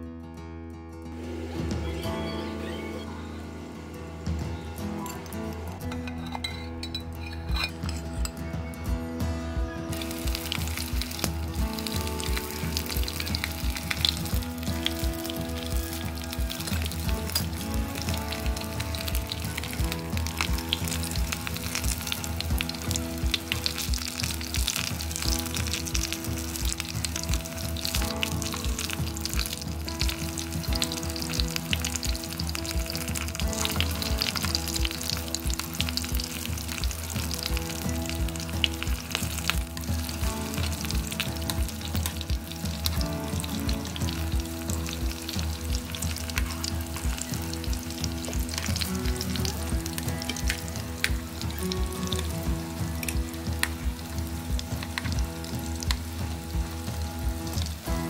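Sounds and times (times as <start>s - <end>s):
battered vegetables frying in oil: 9.9s - 58.0s.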